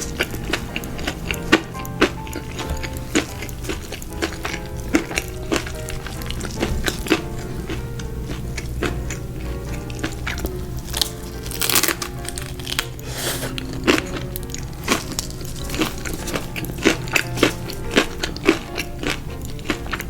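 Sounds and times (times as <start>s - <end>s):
background music: 0.0s - 20.0s
crunching crispy fried food: 0.0s - 20.0s.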